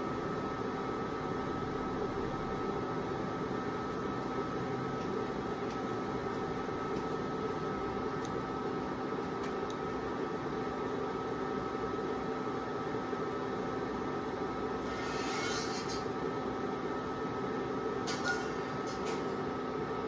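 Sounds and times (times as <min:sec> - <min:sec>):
faint fan whine: 0:00.0 - 0:20.0
induction cooktop hum and hiss: 0:00.0 - 0:20.0.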